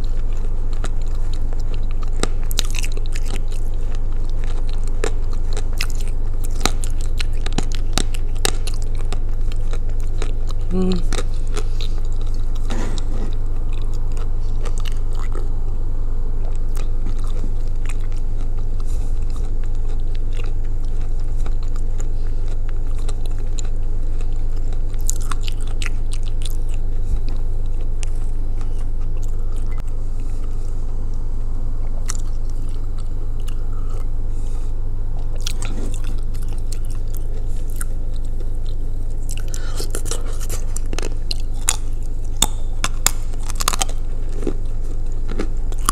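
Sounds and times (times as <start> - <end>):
chewing and biting clay: 0.0 - 15.7, 16.4 - 34.2, 34.8 - 45.9
steady low hum: 0.0 - 45.9.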